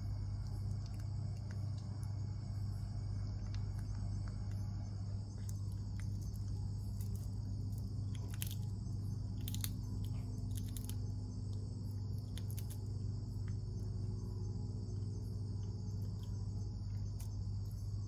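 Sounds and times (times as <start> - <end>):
high-pitched insect chorus: 0.0 - 18.0
monkey chewing crunchy insect: 0.0 - 18.0
steady low hum: 0.0 - 18.0.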